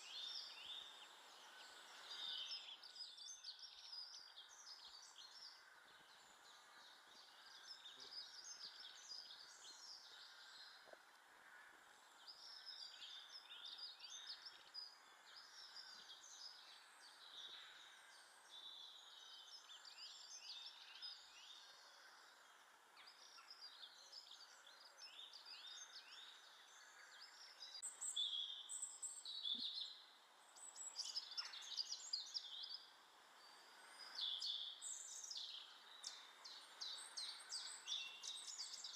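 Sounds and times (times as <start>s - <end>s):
faint steady background noise: 0.0s - 38.9s
small birds chirping: 0.0s - 38.9s.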